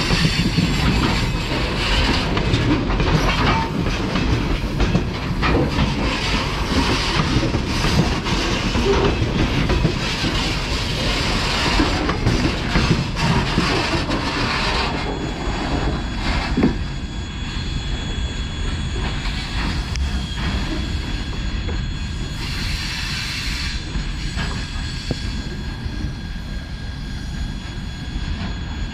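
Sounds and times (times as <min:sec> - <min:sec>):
high squeal from wheels and rails: 0:00.0 - 0:28.9
train wheels rumbling over rail joints: 0:00.0 - 0:28.9.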